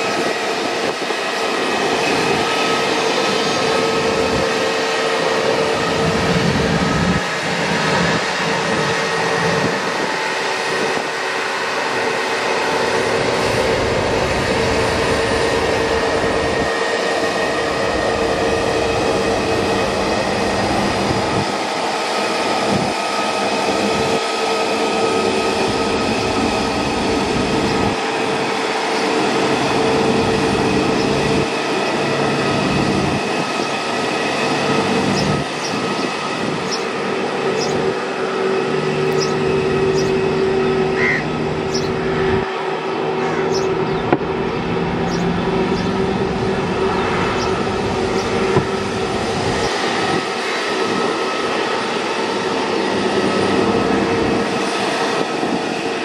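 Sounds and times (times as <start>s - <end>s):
jet engine rushing noise: 0.0s - 56.0s
jet engine whine: 0.0s - 56.0s.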